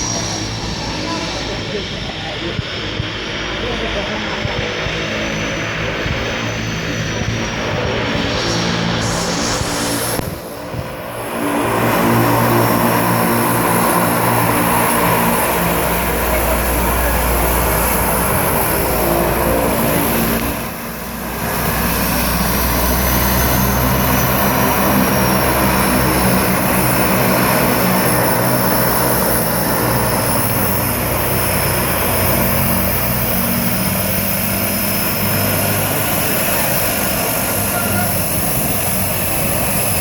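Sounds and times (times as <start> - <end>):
high engine whine: 0.0 - 40.0
propeller airplane engine drone: 0.0 - 40.0.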